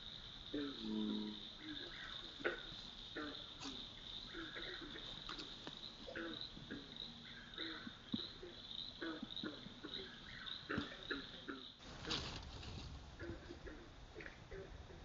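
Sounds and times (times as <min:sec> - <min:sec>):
insect chirps and clicks: 0:00.0 - 0:13.6
insects high pulsing trill: 0:00.0 - 0:14.0.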